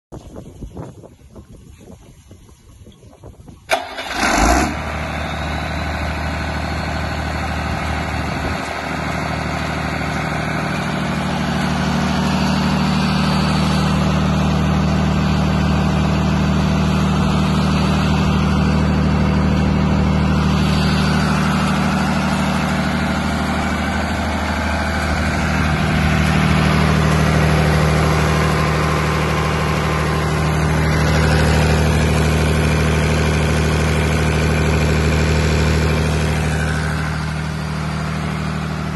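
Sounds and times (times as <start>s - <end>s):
diesel engine starting and running: 3.6s - 38.9s.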